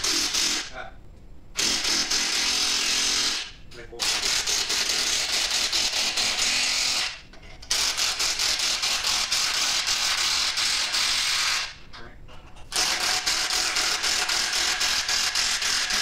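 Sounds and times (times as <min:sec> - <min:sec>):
power tool rattling buzz: 0:01.6 - 0:11.7, 0:12.7 - 0:16.0.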